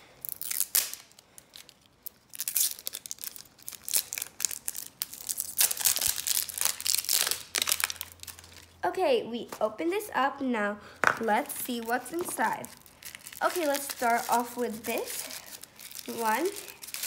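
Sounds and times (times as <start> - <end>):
plastic wrapping crinkling and tearing: 0.0 - 8.8, 11.2 - 17.0.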